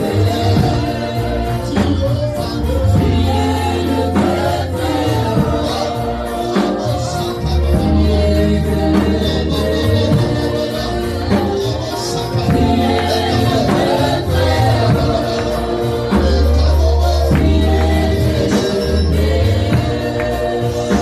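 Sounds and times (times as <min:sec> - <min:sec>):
band with strong bass line: 0:00.0 - 0:21.0
choir singing: 0:00.0 - 0:21.0
tambourine beat: 0:00.0 - 0:21.0.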